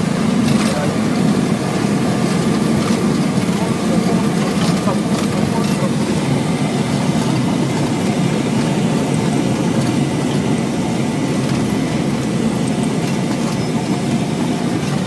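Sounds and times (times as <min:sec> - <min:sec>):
jet rolling on runway rumble: 0:00.0 - 0:15.0.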